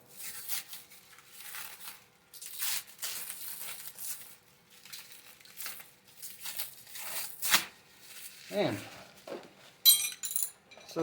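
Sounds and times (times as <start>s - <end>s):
plastic wrap crinkling and tearing: 0.0s - 9.3s.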